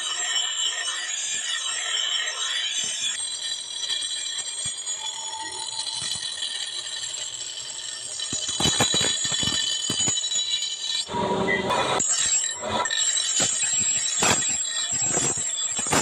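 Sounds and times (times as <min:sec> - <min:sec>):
metal grinding whine: 0:00.0 - 0:16.0.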